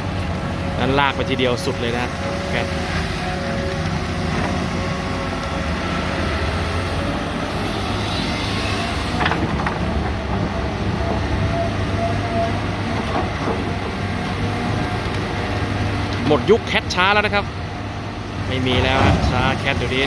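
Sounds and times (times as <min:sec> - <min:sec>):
excavator diesel engines running: 0:00.0 - 0:20.0.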